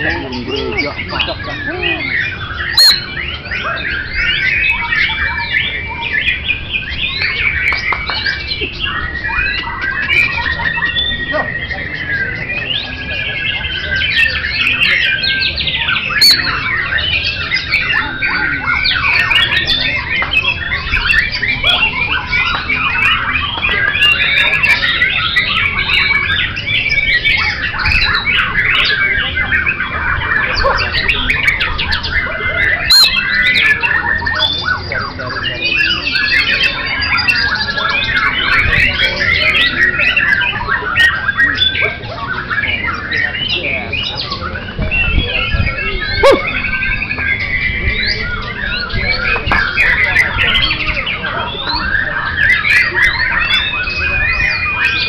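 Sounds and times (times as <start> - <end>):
songbirds chirping and whistling: 0.0 - 55.0.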